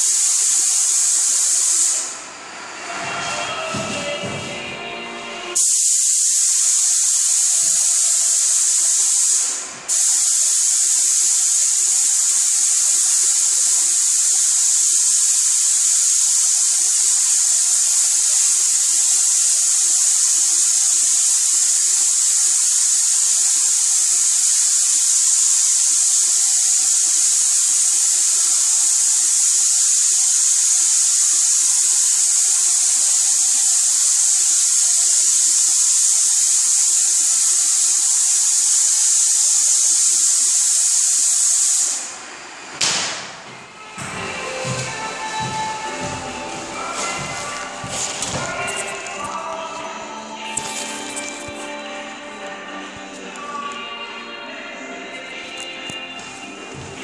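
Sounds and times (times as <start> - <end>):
paint spray gun hissing: 0.0 - 2.2, 5.6 - 42.2, 44.3 - 53.8.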